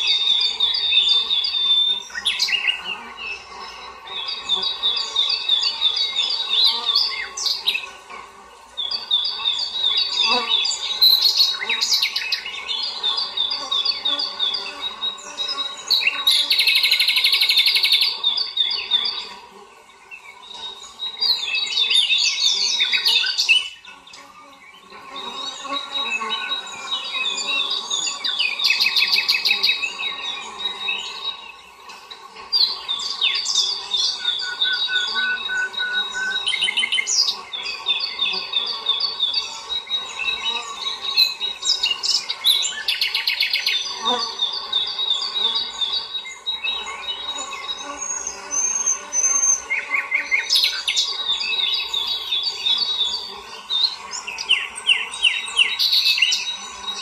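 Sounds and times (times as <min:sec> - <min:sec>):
faint insect-like drone: 0:00.0 - 0:57.0
songbirds chirping and trilling: 0:00.0 - 0:57.0.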